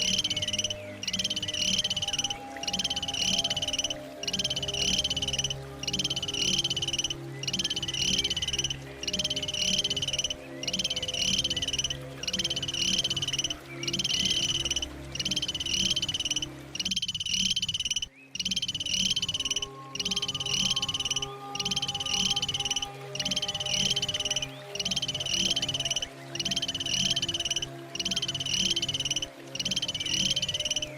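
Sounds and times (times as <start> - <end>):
animal trill call: 0.0 - 30.9.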